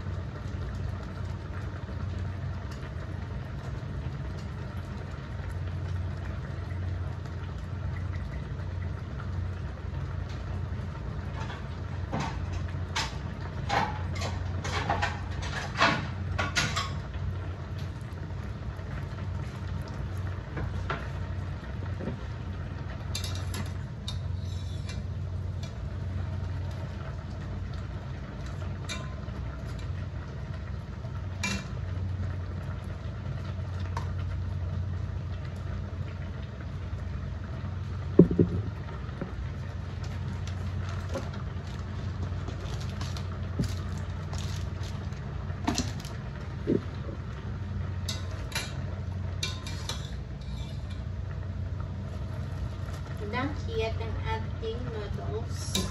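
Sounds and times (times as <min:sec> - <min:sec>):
water boiling in a pot: 0:00.0 - 0:55.9.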